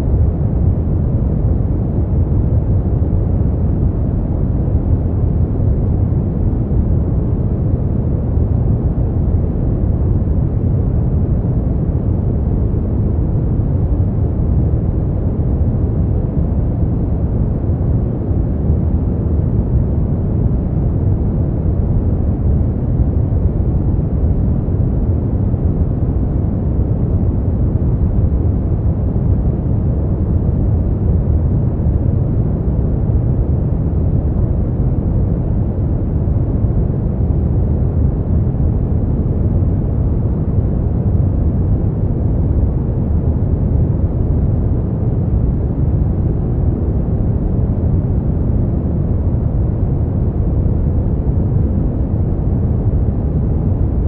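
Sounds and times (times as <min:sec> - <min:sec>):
deep rumbling noise: 0:00.0 - 0:54.0.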